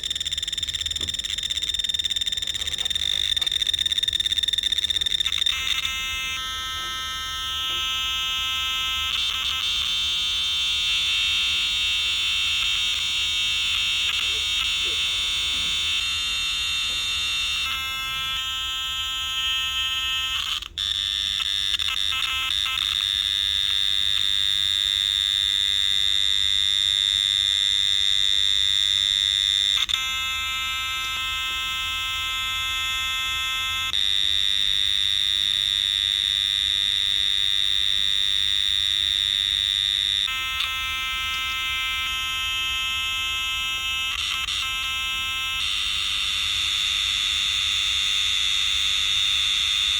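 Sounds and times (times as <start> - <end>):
shrill electronic tone: 0.0 - 25.3, 28.4 - 49.9.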